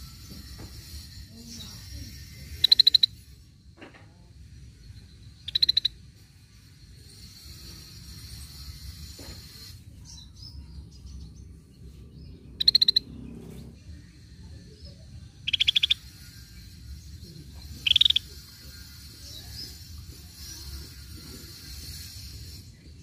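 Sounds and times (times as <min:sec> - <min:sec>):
bird trilled calls: 0:00.0 - 0:03.4, 0:05.0 - 0:13.8, 0:14.5 - 0:22.7.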